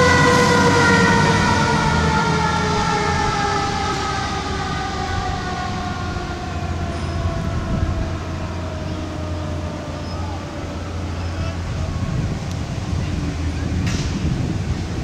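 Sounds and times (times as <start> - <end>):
fire engine siren: 0.0 - 15.0
truck engine rumble: 0.0 - 15.0.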